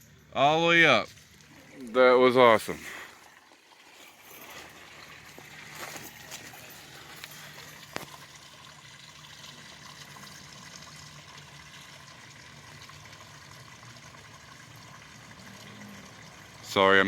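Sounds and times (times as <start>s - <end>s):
stream trickling: 0.0s - 17.0s.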